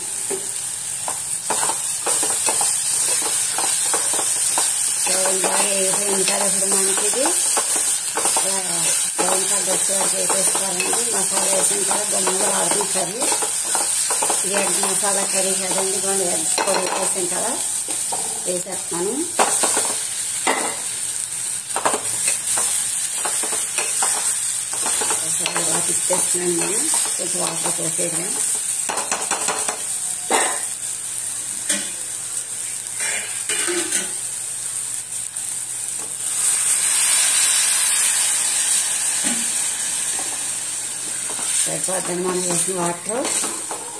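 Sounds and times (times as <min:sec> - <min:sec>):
onions sizzling in a pot: 0:00.0 - 0:43.9.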